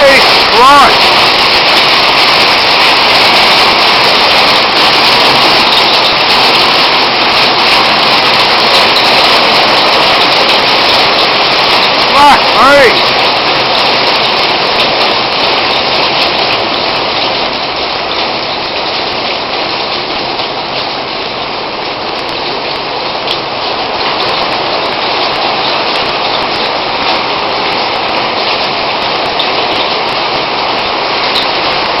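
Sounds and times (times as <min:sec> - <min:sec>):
heavy rain pouring: 0:00.0 - 0:32.0
sharp ticks of raindrop impacts: 0:00.0 - 0:32.0.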